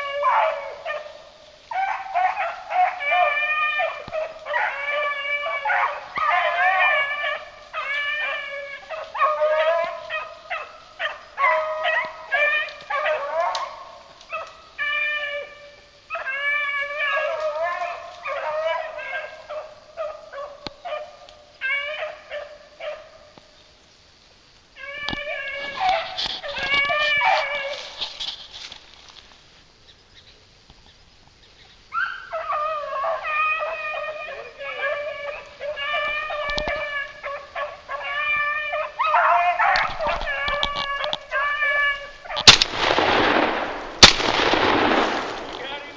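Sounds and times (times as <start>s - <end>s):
hounds baying: 0.0s - 23.4s, 24.8s - 28.2s, 31.9s - 45.9s.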